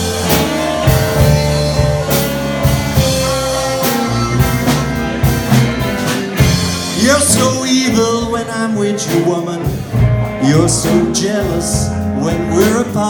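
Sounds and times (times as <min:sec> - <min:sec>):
bass guitar: 0:00.0 - 0:13.0
drum kit slow beat: 0:00.0 - 0:13.0
electric guitar: 0:00.0 - 0:13.0.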